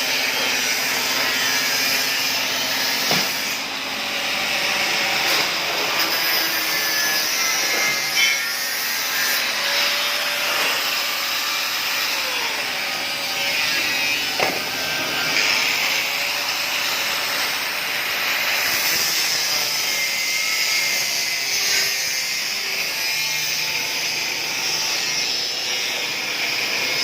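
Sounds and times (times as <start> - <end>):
angle grinder cutting steel: 0.0 - 27.0.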